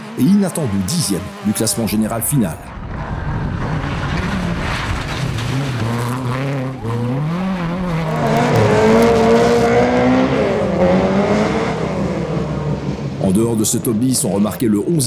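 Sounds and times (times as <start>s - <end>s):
rally car engines revving: 0.0s - 15.0s.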